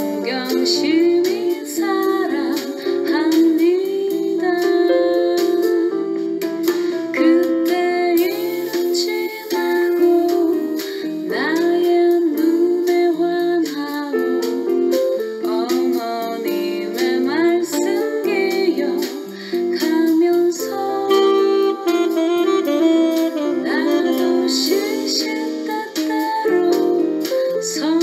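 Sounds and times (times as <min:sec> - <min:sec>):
plucked string melody: 0:00.0 - 0:28.0.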